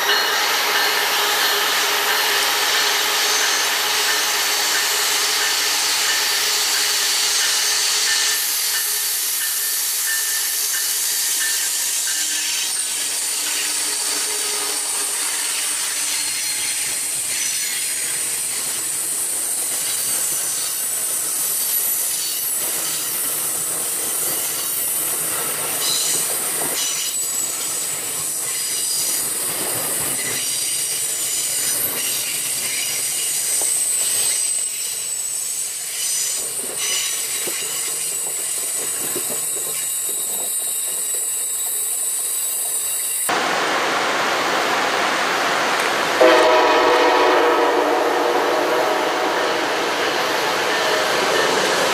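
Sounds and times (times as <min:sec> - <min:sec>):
train wheels squealing on rails: 0:00.0 - 0:43.3, 0:49.4 - 0:51.9.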